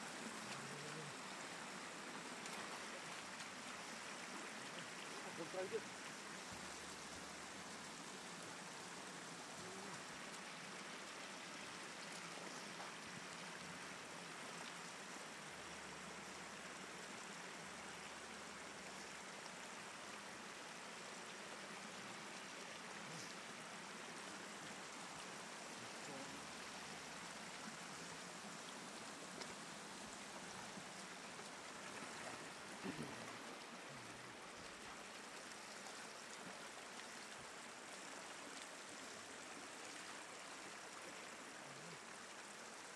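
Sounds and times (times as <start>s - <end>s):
floodwater flowing: 0.0s - 42.9s.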